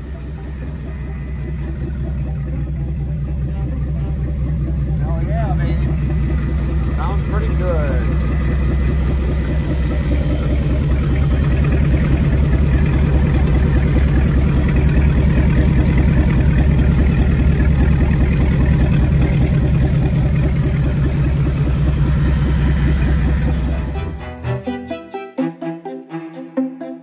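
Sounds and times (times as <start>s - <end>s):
marine engine running: 0.0s - 24.4s.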